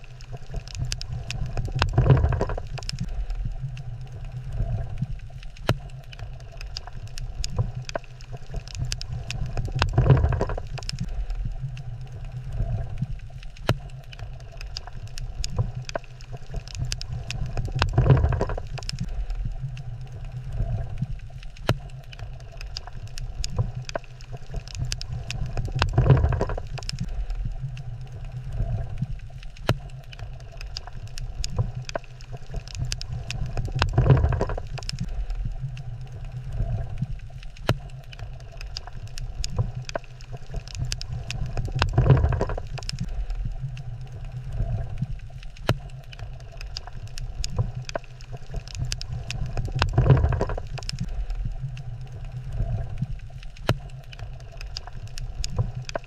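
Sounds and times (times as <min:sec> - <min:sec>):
crackle of sharp clicks: 0:00.0 - 0:56.0
low steady hum: 0:00.0 - 0:56.0.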